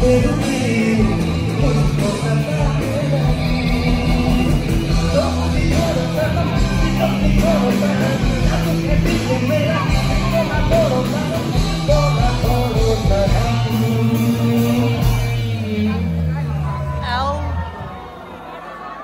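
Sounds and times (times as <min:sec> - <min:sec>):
person singing: 0:00.0 - 0:16.5
live band music: 0:00.0 - 0:18.0.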